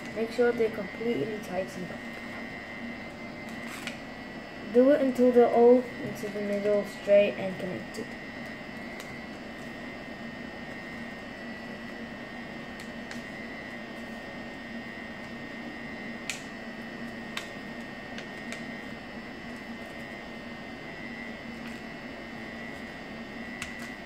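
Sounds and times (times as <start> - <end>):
room hum with high whine: 0.0 - 24.0.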